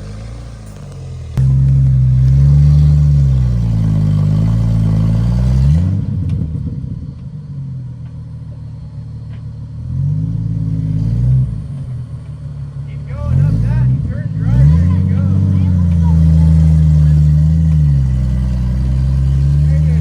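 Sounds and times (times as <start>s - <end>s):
car engine revving under load: 0.0s - 20.0s.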